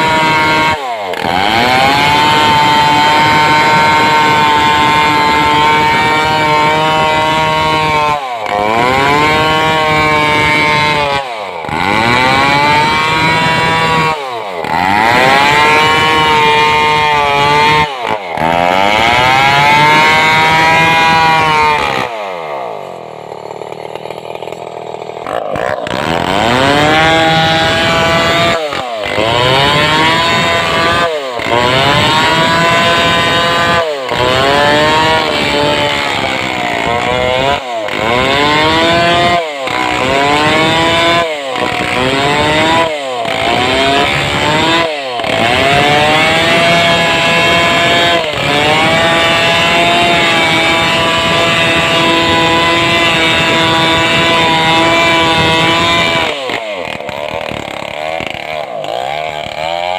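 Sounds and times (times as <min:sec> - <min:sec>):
chainsaw sawing log: 0:00.0 - 0:59.9.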